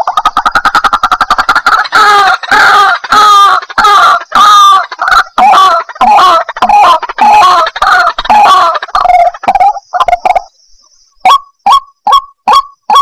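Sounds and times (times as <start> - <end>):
harsh bird calls: 0.0 - 11.9.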